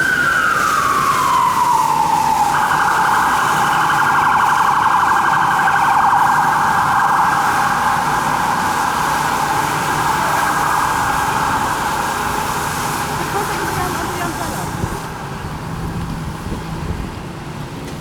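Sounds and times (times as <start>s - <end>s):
siren yelping: 0.0s - 16.0s
engine and traffic rumble: 0.0s - 18.0s.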